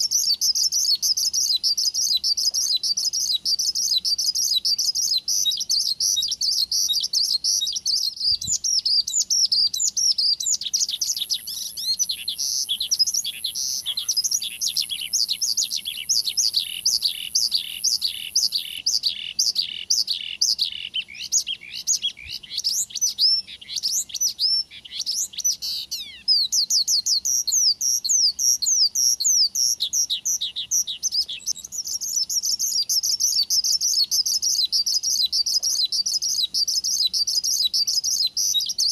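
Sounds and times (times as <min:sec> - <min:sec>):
lark singing: 0:00.0 - 0:38.9.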